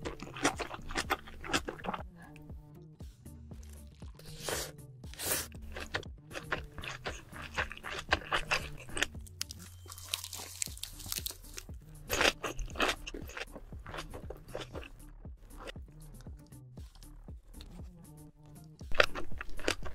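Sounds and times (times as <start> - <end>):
crunchy bites and chewing: 0.0 - 2.0, 3.6 - 17.8, 18.5 - 19.9.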